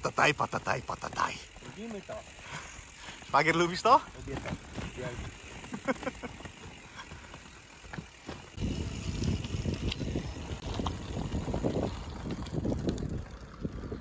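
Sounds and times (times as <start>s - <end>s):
bicycle rattling over rough path: 0.0s - 14.0s.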